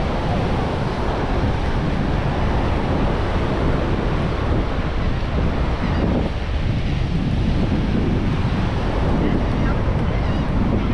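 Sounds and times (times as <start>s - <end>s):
ocean surf: 0.0s - 10.9s
wind on microphone: 0.0s - 10.9s.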